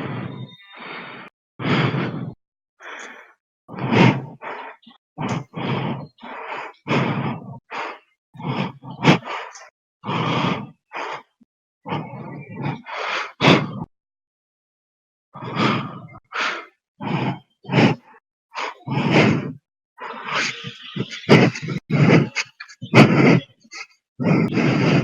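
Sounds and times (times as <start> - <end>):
person breathing heavily: 0.0 - 13.9, 15.4 - 25.0.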